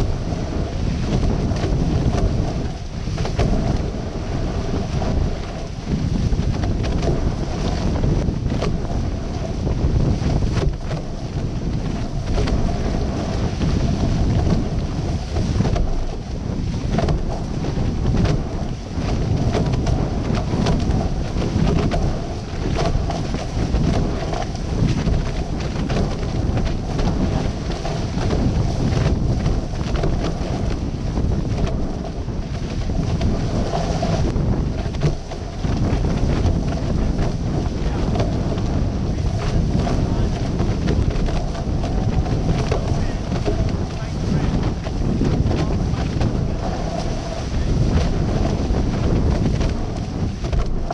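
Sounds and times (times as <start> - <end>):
water rushing and spraying: 0.0 - 50.9
wind buffeting microphone: 0.0 - 50.9.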